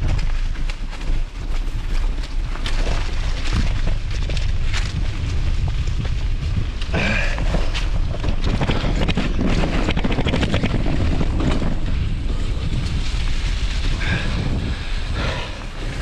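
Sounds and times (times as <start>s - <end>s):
crackling and clicking: 0.0s - 16.0s
wind buffeting microphone: 0.0s - 16.0s.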